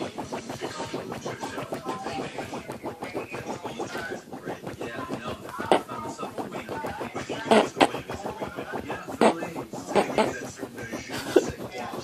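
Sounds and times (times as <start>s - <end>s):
dog scratching and rustling: 0.0s - 12.0s.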